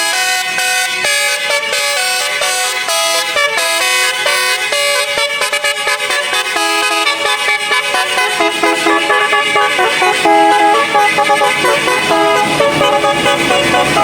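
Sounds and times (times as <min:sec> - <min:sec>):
musical bus horns playing tune: 0:00.0 - 0:14.0.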